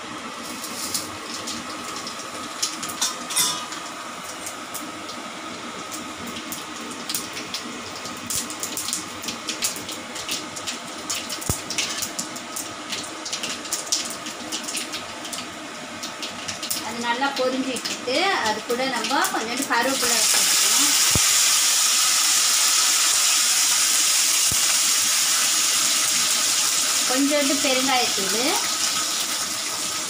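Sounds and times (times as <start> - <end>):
spices sizzling in hot oil: 0.0 - 30.0.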